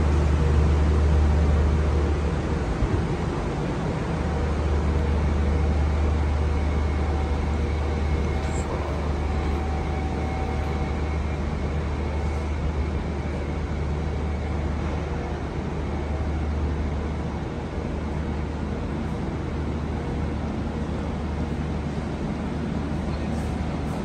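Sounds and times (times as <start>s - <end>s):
train engine droning: 0.0s - 24.0s.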